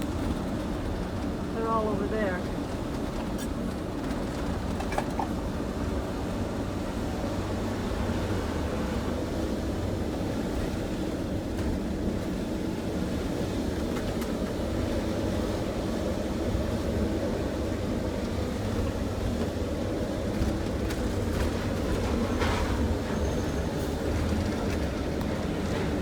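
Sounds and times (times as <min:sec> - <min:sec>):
tyres on the road: 0:00.0 - 0:26.0.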